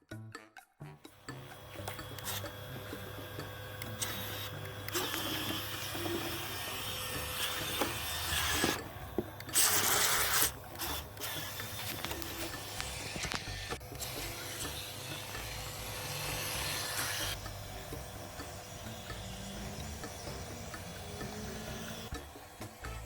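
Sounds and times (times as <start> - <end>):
small electric propeller motors whirring: 1.1 - 23.0.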